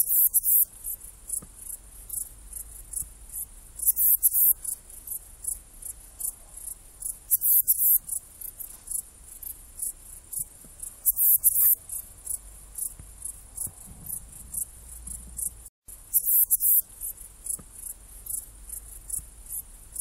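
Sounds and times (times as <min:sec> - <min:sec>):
bush-cricket chirping: 0:00.0 - 0:20.0.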